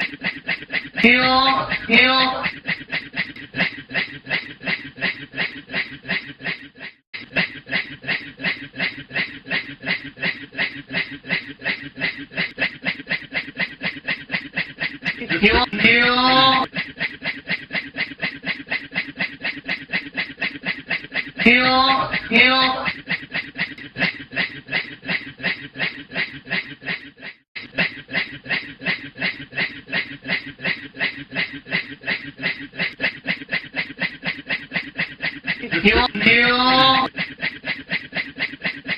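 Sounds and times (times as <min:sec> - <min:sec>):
man imitating train chugging: 0:00.0 - 0:38.9.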